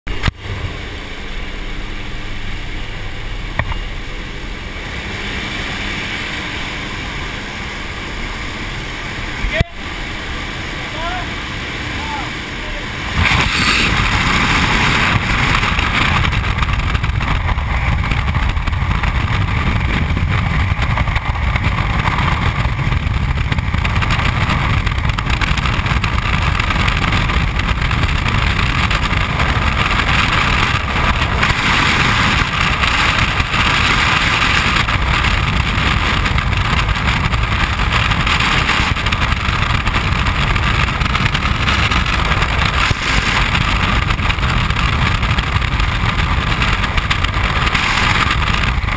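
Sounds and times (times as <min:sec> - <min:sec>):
wind rushing over microphone: 0:00.1 - 0:48.9.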